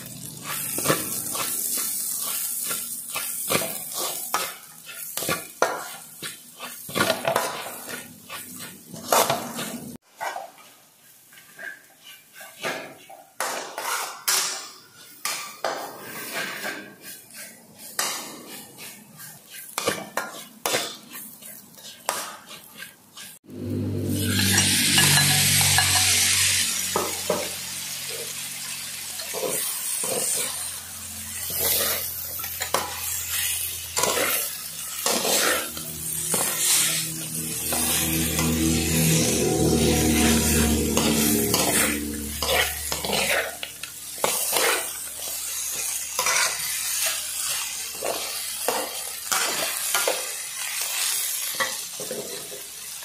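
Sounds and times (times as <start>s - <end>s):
metal spatula scraping a wok: 0.0s - 53.0s.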